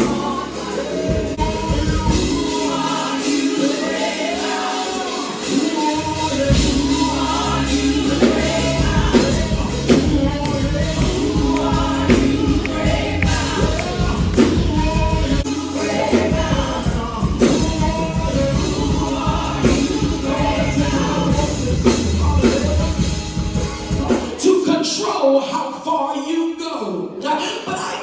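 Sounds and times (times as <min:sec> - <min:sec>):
man and women singing: 0:00.0 - 0:23.1
bass: 0:00.0 - 0:24.6
band accompaniment: 0:00.0 - 0:25.0
drum strikes: 0:01.1 - 0:24.4.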